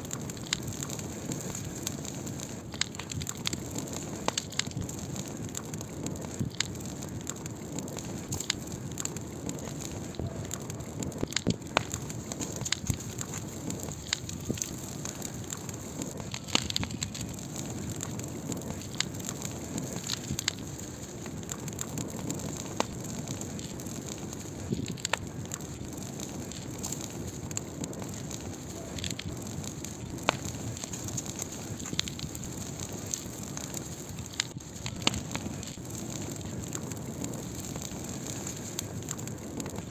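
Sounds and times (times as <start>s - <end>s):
fire crackling and popping: 0.0s - 39.9s
fire hissing: 0.0s - 39.9s
fire snapping: 0.0s - 39.9s.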